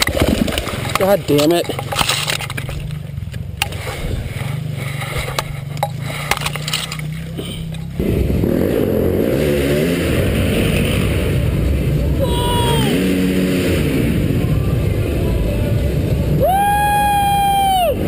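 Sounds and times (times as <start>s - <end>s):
dirt bike engine revving: 0.0s - 16.4s.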